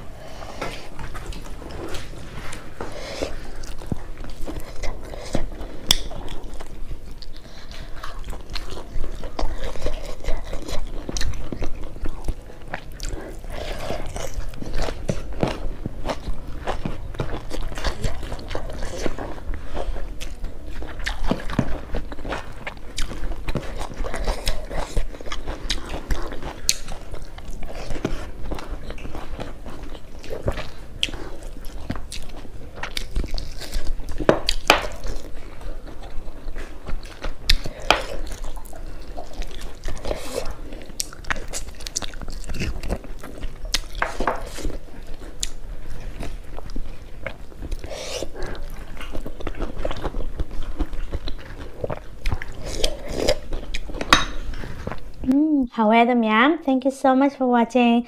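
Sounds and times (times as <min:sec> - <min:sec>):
chewing and mouth smacks: 0:00.3 - 0:55.2.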